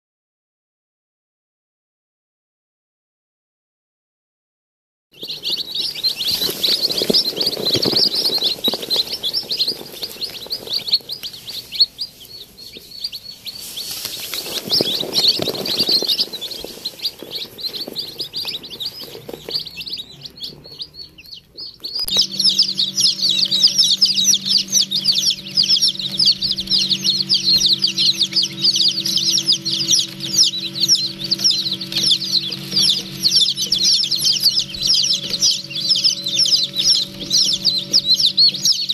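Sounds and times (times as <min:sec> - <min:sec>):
chicks peeping: 0:05.1 - 0:38.9
steady low hum: 0:05.2 - 0:38.9.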